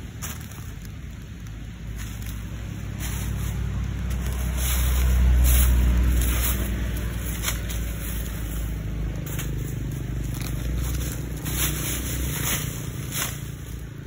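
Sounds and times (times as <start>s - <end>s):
dry leaves and plastic crackling: 0.0s - 14.0s.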